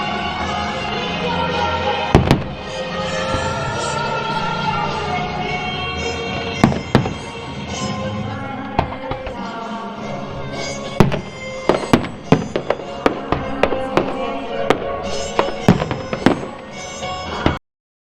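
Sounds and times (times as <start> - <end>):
fireworks bangs: 0.0 - 17.6
music playing: 0.0 - 17.6.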